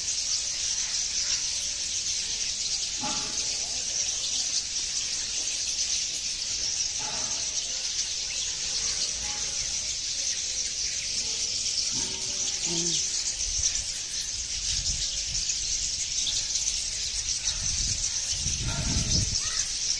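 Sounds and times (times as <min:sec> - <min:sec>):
birds chirping chorus: 0:00.0 - 0:19.9.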